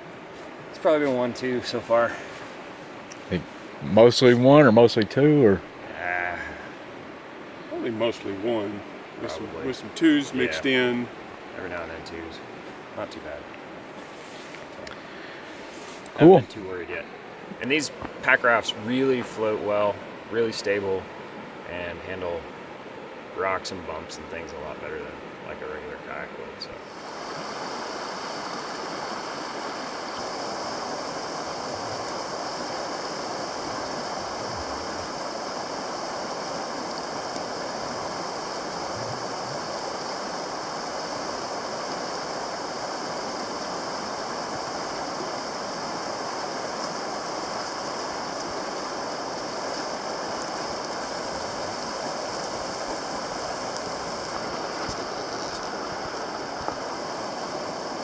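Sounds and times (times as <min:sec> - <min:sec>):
river rushing over gravel: 0:00.0 - 0:58.0.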